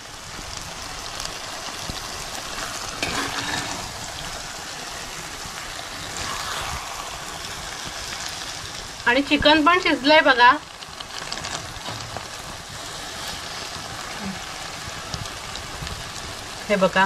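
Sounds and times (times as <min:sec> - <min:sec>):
chicken sizzling in a pot: 0:00.0 - 0:17.0.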